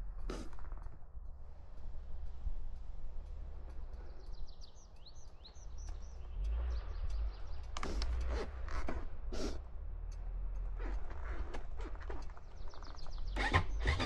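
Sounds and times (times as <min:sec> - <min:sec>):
steady low rumble: 0:00.0 - 0:13.4
songbird chirping: 0:01.5 - 0:14.0.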